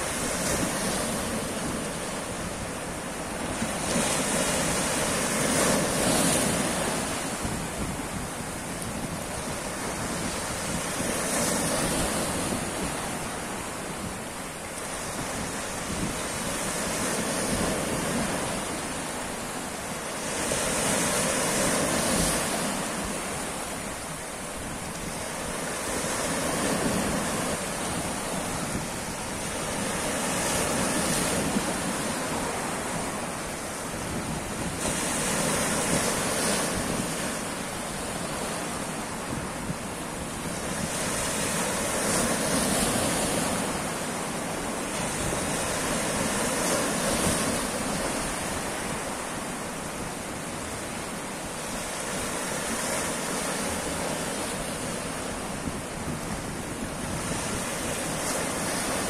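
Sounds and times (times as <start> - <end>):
sea waves breaking over rocks: 0.0 - 59.0.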